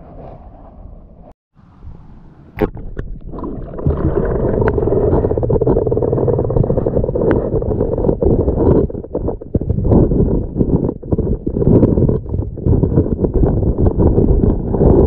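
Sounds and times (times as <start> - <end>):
muffled underwater water rushing: 1.9 - 15.0.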